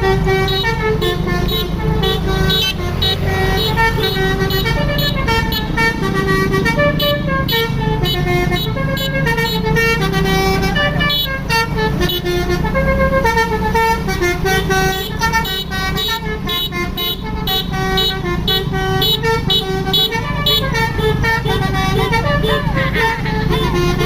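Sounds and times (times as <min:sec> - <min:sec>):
bus engine running: 0:00.0 - 0:24.0
multi-note bus horn tune: 0:00.0 - 0:24.0.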